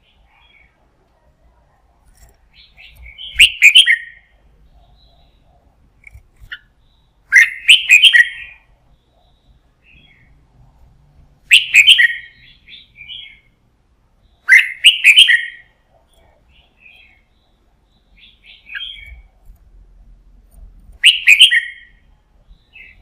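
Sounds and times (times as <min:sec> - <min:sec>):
bird singing song phrases: 0:00.0 - 0:00.8, 0:02.2 - 0:10.6, 0:11.4 - 0:19.6, 0:20.9 - 0:23.0.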